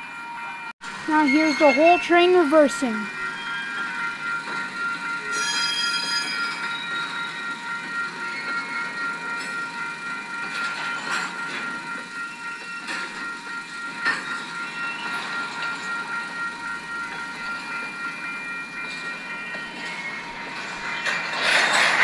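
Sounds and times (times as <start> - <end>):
train cars clanking: 0.4 - 22.0
train wheel squeal: 3.1 - 22.0.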